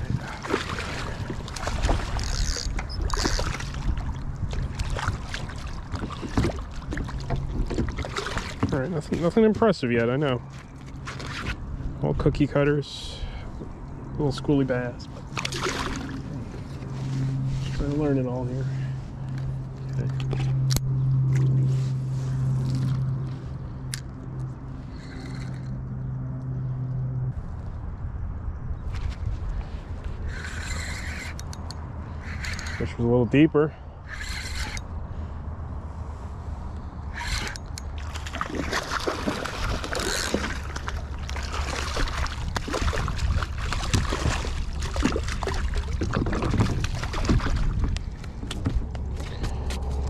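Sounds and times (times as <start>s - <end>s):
water splashing and sloshing: 0.0s - 26.4s, 28.8s - 33.2s, 36.0s - 50.0s
low wind rumble: 0.0s - 50.0s.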